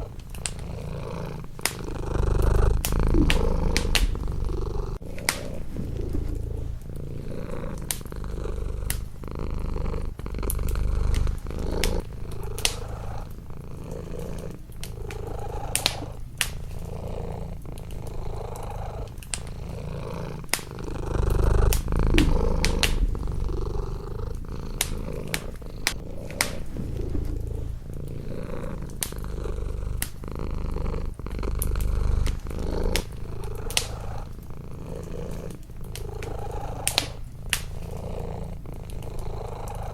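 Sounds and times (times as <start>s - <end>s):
wood fire crackling and popping: 0.0s - 39.7s
cat purring: 0.0s - 39.9s.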